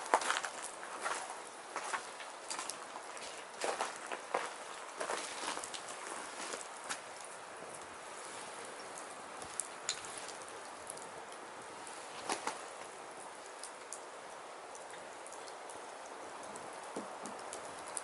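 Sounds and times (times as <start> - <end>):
firewood crackling and popping: 0.0 - 18.0.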